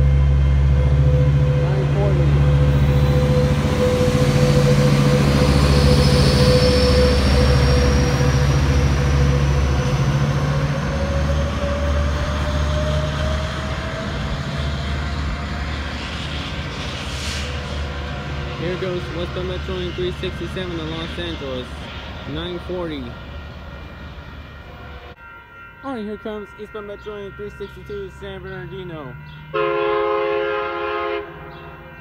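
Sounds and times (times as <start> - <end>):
diesel locomotive engine hum: 0.0 - 32.0.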